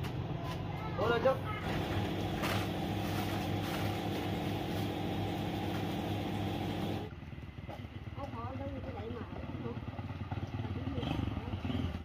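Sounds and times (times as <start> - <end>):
engine running steadily: 1.5 - 12.0.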